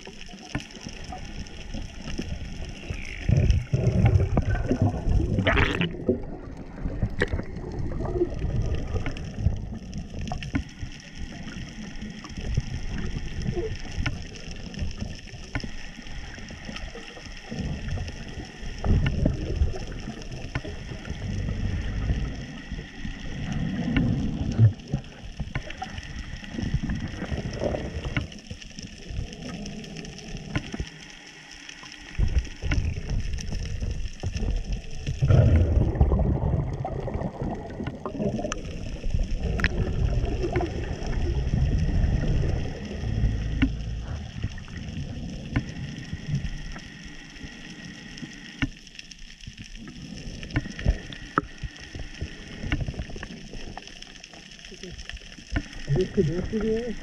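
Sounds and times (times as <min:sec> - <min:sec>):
faint clicks: 0:00.0 - 0:35.4, 0:36.6 - 0:57.0
underwater rumbling surges: 0:00.0 - 0:48.8, 0:49.5 - 0:57.0.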